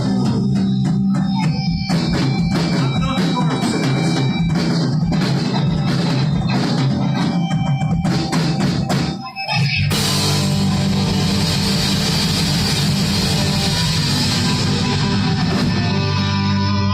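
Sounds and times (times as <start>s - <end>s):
live rock band: 0.0s - 16.9s.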